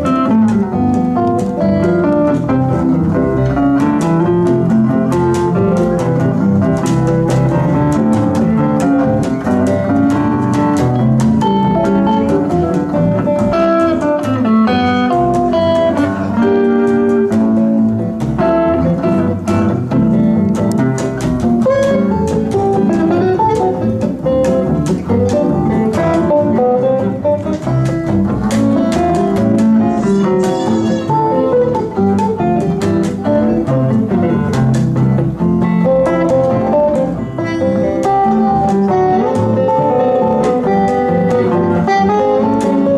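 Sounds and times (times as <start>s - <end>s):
guitars playing instrumental tune: 0.0s - 42.9s.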